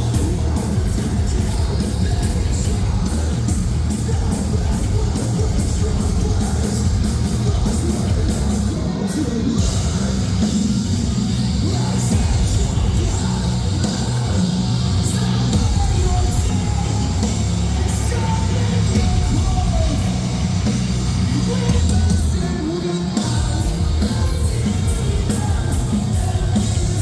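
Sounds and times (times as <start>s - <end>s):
bass guitar: 0.0s - 27.0s
distorted guitars: 0.0s - 27.0s
pounding drums: 0.0s - 27.0s.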